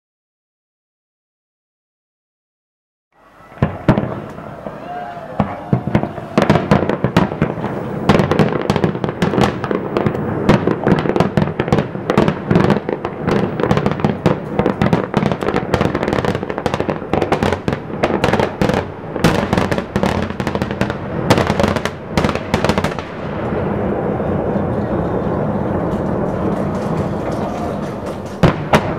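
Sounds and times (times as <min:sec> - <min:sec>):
fireworks bursting: 0:03.2 - 0:28.9.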